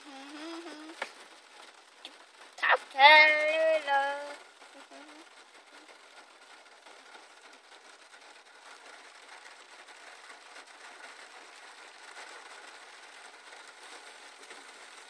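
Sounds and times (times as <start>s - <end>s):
rain and hail on car roof: 0.0s - 15.0s.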